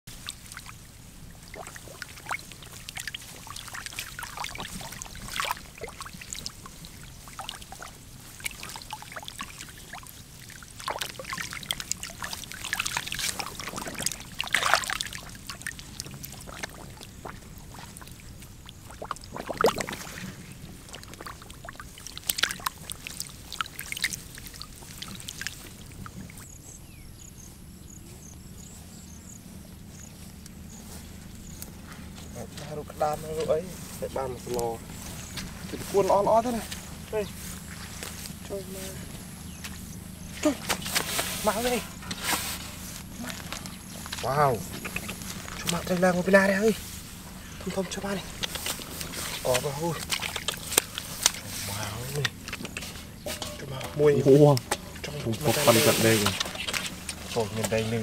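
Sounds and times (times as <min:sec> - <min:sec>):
shallow water splashing: 0:00.1 - 0:27.0, 0:29.8 - 0:58.0
faint steady hiss: 0:00.1 - 0:58.0.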